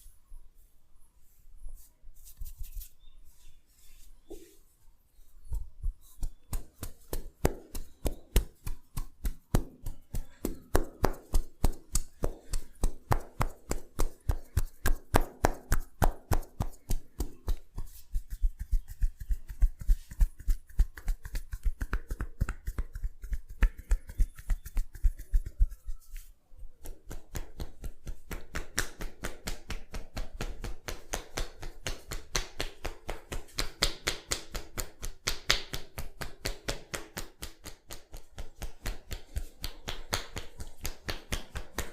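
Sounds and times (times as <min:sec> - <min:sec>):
hands slapping in massage: 0:05.5 - 0:41.9.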